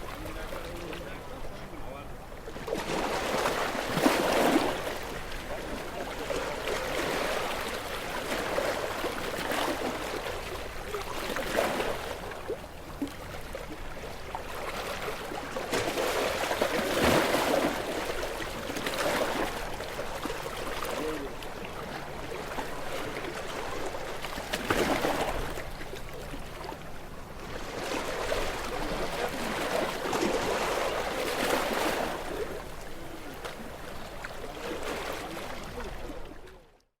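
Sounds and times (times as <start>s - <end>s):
waves splashing against rocks: 2.6s - 36.6s.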